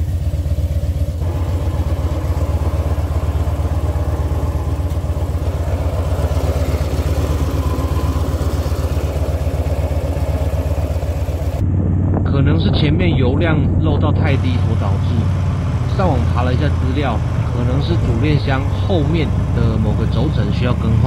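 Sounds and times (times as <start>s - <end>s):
motorcycle engine idling: 0.0s - 11.6s, 14.3s - 21.0s
clattering engine noise: 0.0s - 21.0s.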